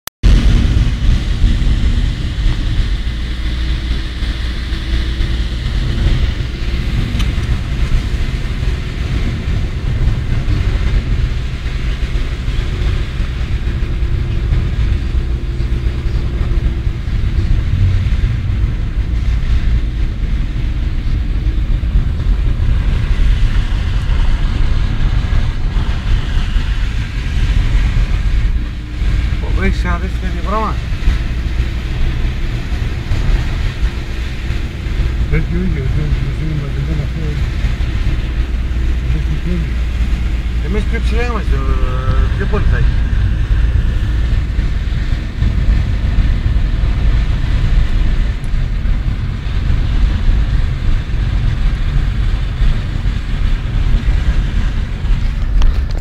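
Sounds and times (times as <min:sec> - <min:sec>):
car engine and tyres rumbling: 0:00.2 - 0:56.0.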